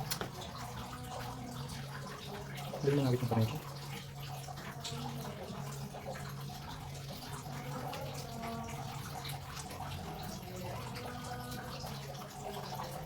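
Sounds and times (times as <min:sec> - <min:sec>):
faucet water running: 0:00.0 - 0:13.0.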